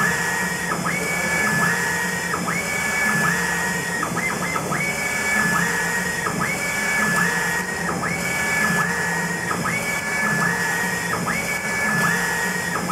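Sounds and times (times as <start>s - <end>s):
printer carriage motor whining: 0.0s - 12.9s
steady machine hum: 0.0s - 12.9s.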